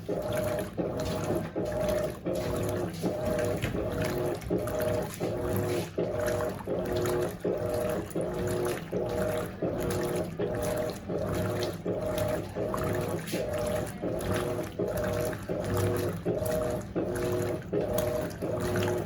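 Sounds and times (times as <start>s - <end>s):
washing machine motor humming: 0.0s - 19.0s
water sloshing: 0.0s - 19.0s.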